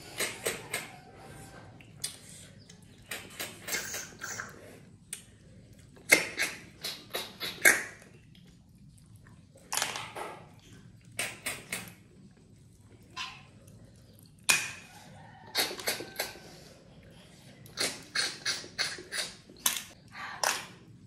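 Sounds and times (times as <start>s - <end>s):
slurping snails from shells: 0.0s - 21.0s.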